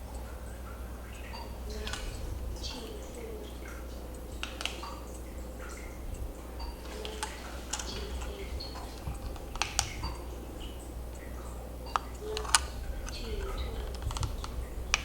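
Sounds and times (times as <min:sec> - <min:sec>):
low steady hum: 0:00.0 - 0:15.0
computer keyboard and mouse clicks: 0:01.2 - 0:03.2, 0:04.1 - 0:15.0.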